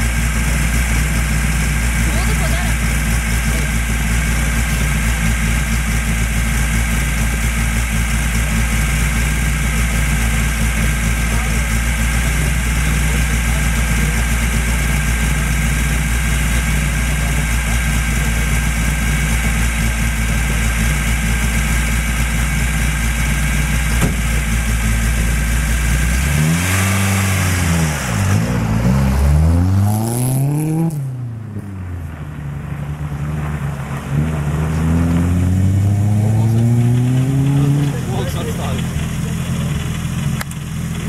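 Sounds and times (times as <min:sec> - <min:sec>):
rally car engine revving: 0:00.0 - 0:41.0
second rally car engine: 0:00.0 - 0:41.0.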